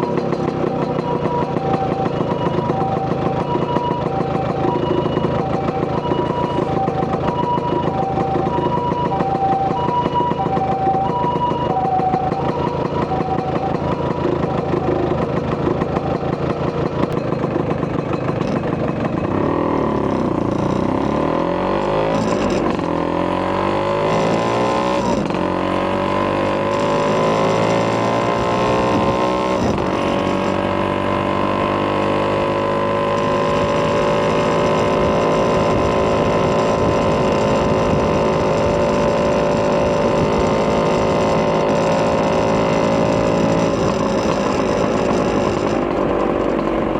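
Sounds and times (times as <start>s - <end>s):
scooter engine revving: 0.0s - 46.9s.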